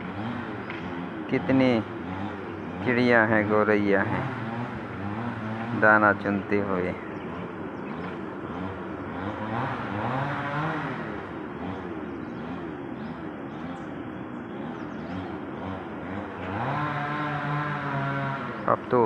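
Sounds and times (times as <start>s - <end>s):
motor engine pitch rising and falling: 0.0s - 19.0s.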